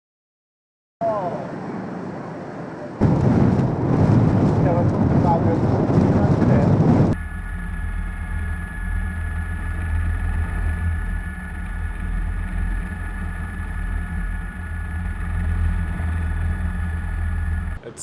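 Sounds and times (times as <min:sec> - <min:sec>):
engine drone with high whine: 0:01.0 - 0:18.0.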